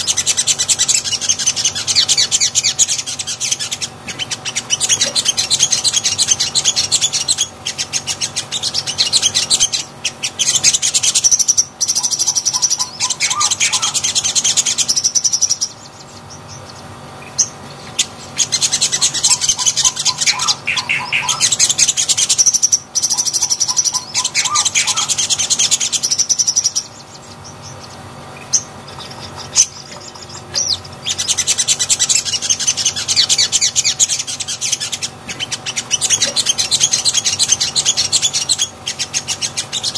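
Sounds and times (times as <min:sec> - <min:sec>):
sunbird chirping trills: 0:00.0 - 0:39.9.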